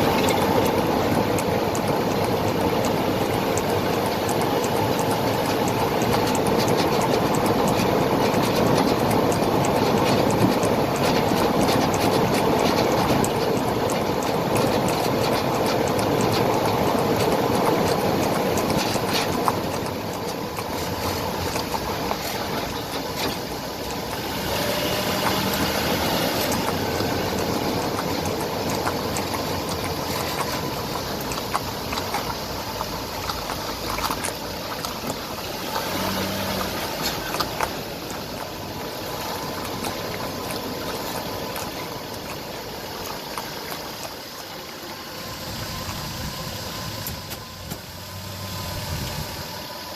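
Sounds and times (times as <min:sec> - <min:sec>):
wheel vibration hum with rattling: 0:00.0 - 0:49.9.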